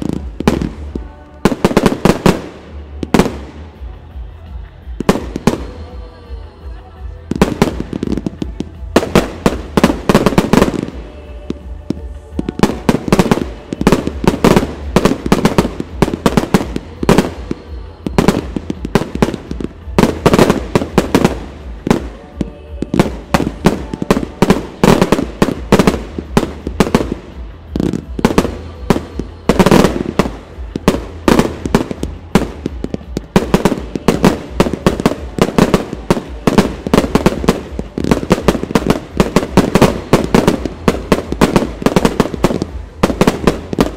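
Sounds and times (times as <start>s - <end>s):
firework bursting bangs: 0.0s - 6.4s, 7.2s - 43.9s.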